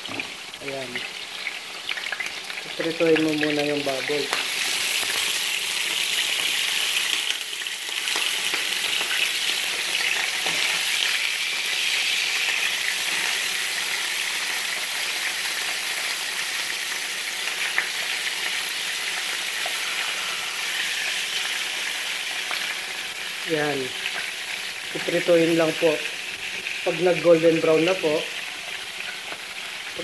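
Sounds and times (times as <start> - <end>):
meat sizzling in oil: 0.0 - 30.0.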